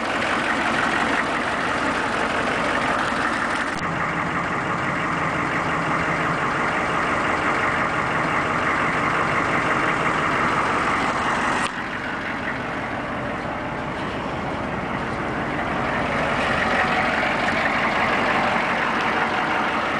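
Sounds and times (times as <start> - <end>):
diesel truck idling: 0.0 - 19.9.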